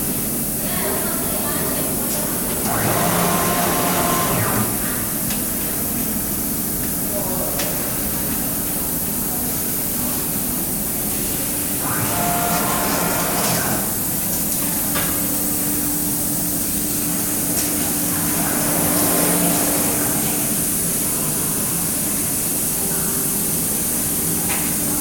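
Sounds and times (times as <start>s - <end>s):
production line hiss and hum: 0.0s - 25.0s.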